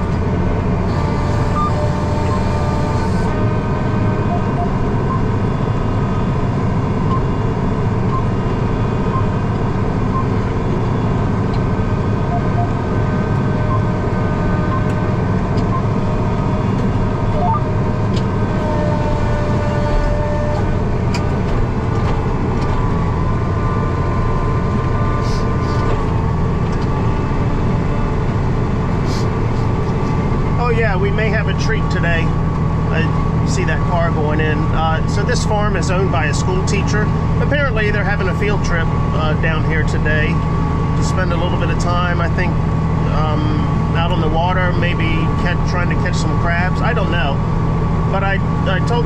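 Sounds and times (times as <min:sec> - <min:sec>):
tractor engine under load: 0:00.0 - 0:49.0.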